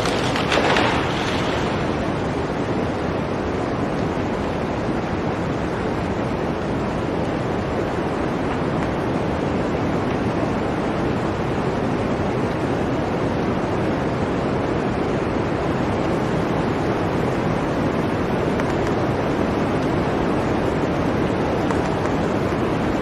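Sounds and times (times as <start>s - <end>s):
blizzard wind rushing: 0.0s - 23.0s.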